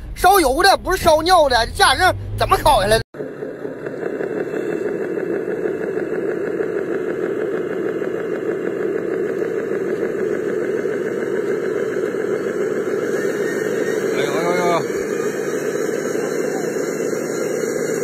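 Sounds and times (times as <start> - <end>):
toy truck engine drone: 1.7 - 18.0.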